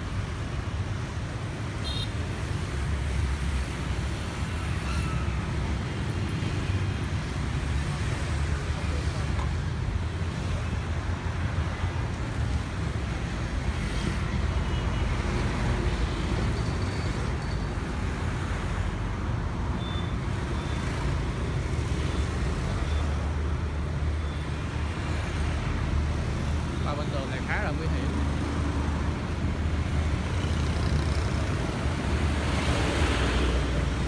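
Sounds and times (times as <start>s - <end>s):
motorbikes and cars passing: 0.0s - 34.0s.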